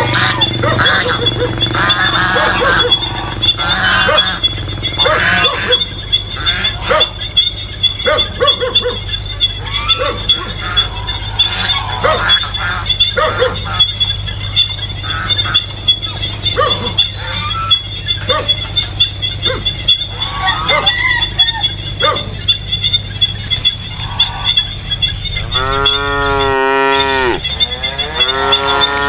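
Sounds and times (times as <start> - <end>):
geese honking: 0.0 - 29.0
insect buzz: 0.0 - 29.0.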